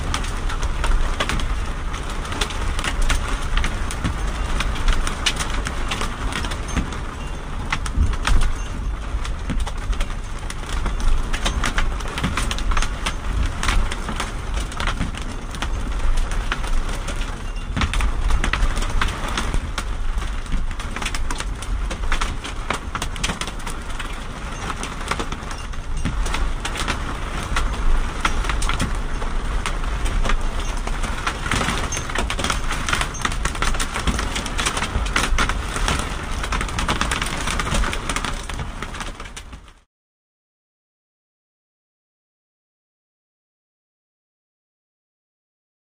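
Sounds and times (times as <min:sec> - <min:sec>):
hail and rain on car roof: 0:00.0 - 0:39.9.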